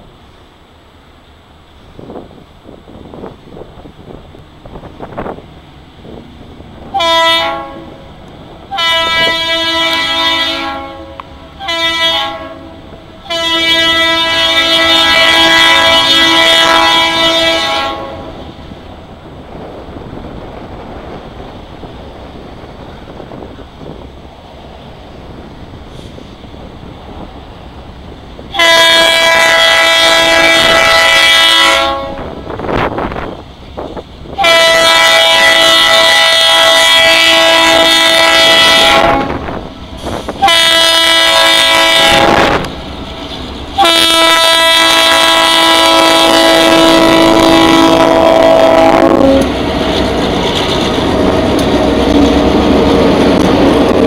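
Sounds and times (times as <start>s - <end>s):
diesel locomotive rumble: 0.0s - 54.0s
storm wind buffeting microphone: 1.8s - 10.2s, 12.6s - 54.0s.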